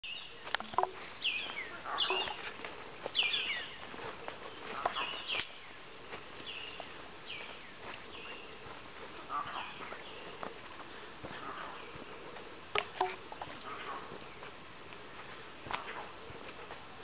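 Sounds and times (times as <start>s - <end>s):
footsteps crunching on dry leaves: 0.1s - 17.0s.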